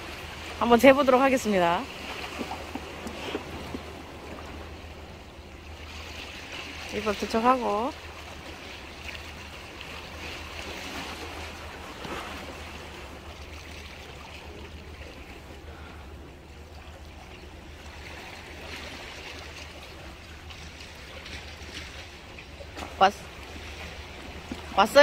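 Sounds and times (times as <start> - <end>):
seawater washing against concrete: 0.0 - 25.0.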